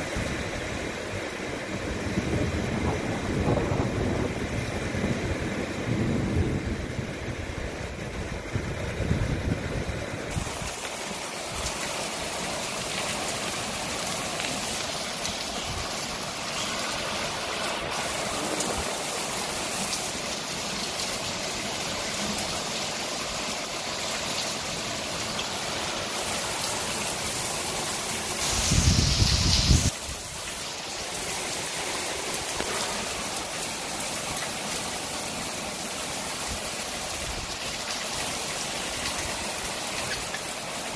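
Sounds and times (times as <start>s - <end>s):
heavy rain falling on patio: 0.0s - 40.9s.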